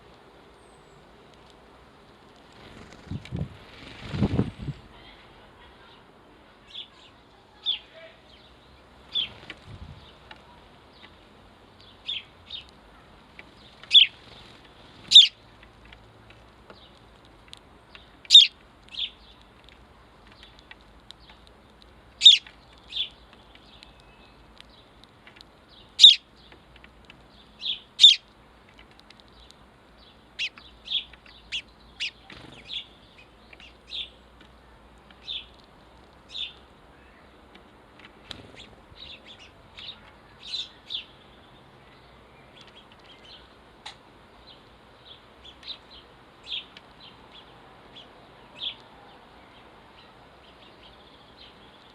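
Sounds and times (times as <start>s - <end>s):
sparrows chirping: 4.0s - 51.9s.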